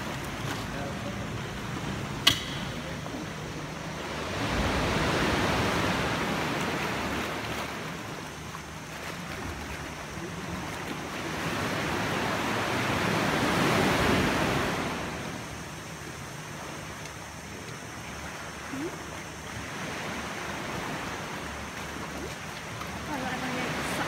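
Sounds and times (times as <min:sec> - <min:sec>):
sea waves washing against rock: 0:00.0 - 0:24.0.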